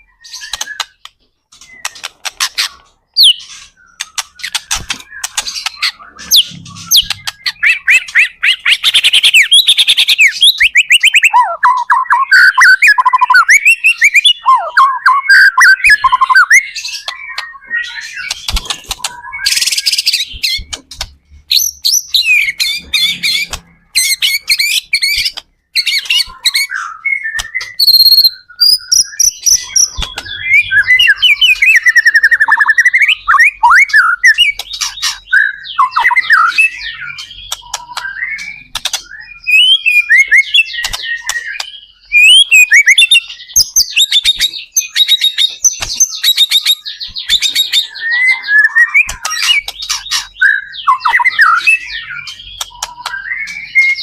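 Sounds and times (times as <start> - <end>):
shama singing whistles and trills: 0.0 - 54.0.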